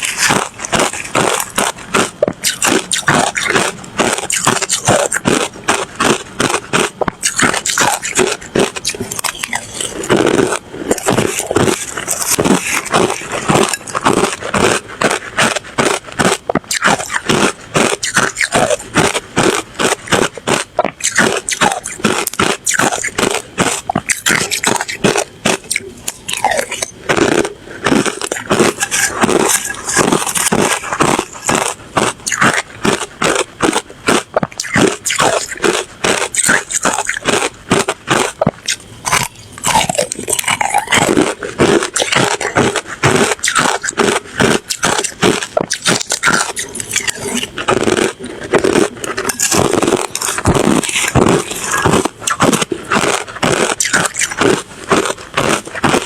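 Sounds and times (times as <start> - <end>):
person chewing ice crunching: 0.0 - 56.0.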